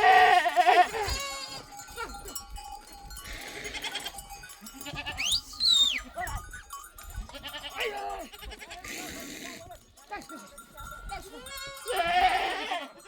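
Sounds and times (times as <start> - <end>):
goats bleating: 0.0 - 2.4, 3.2 - 6.1, 7.2 - 13.0.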